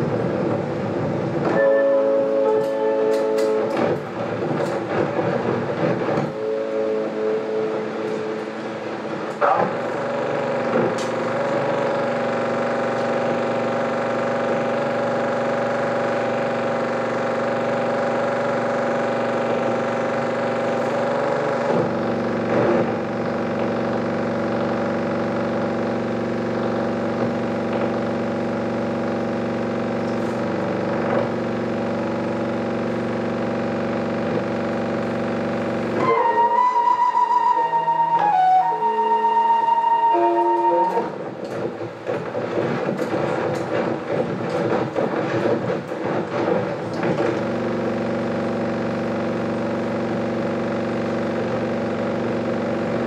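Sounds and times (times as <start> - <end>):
film projector buzzing drone: 0.0 - 53.0.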